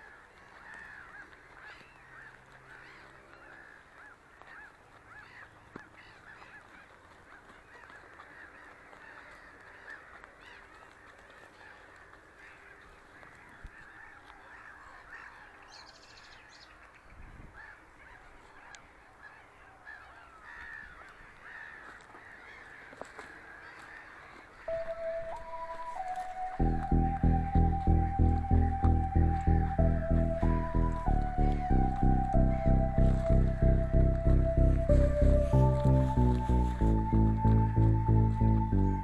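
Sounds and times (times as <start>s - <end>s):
flock of birds calling: 0.0s - 39.0s.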